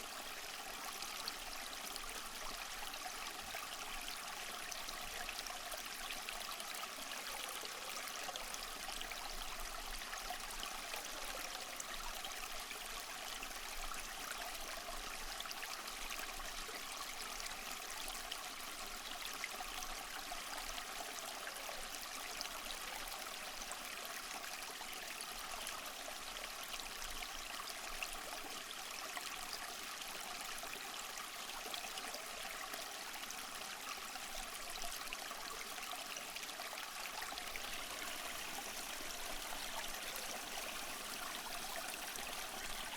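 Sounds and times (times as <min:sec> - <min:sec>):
stream trickling over stones: 0:00.0 - 0:42.9.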